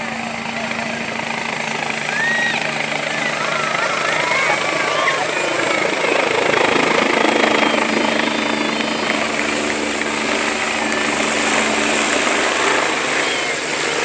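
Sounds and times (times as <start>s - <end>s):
helicopter flying past: 0.0s - 14.0s.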